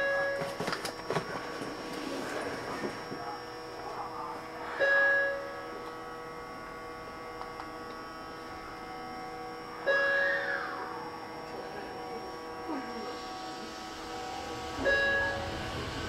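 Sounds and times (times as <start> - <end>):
electric train humming: 0.0 - 16.0.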